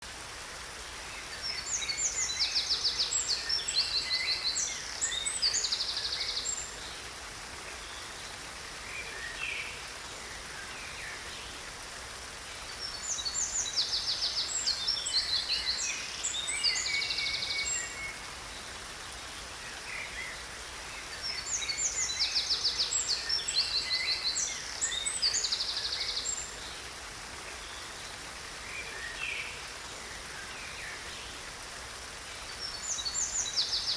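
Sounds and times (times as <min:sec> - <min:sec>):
waterfall hiss: 0:00.0 - 0:33.9.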